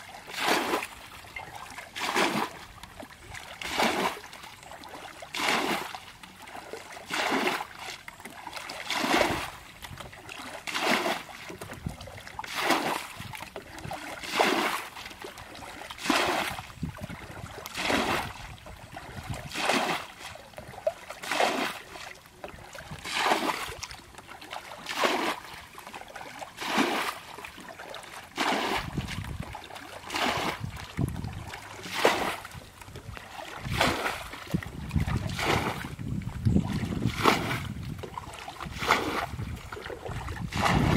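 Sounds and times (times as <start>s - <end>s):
bucket scooping water: 0.0s - 40.9s.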